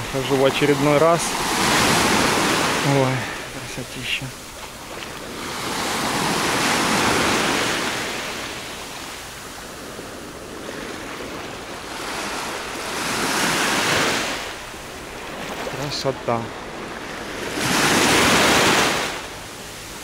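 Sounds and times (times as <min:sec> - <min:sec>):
small waves washing on beach: 0:00.0 - 0:20.0.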